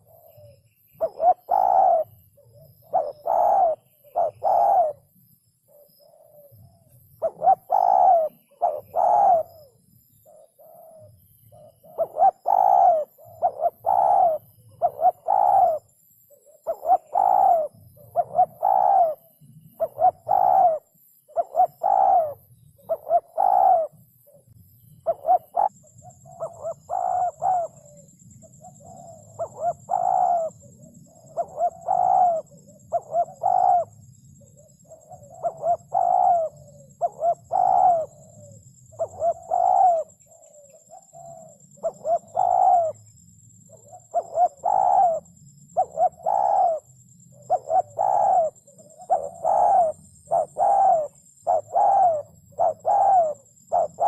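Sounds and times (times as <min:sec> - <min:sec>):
dove cooing: 0:00.0 - 0:54.0
faint high-pitched whine: 0:00.0 - 0:54.0.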